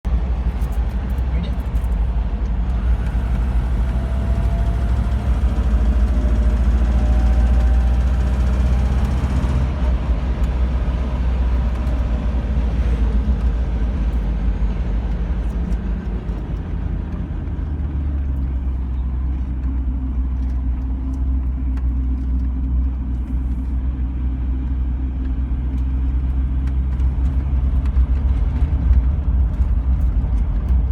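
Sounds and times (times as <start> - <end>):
engine running under load: 0.1 - 30.9
loud engine ticking: 0.1 - 30.9.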